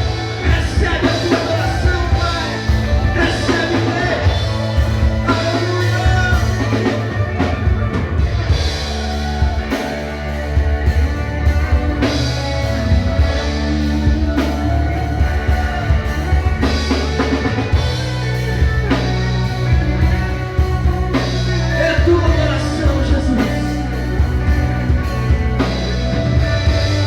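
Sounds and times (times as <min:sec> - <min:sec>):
slow instrumental band music: 0:00.0 - 0:27.0.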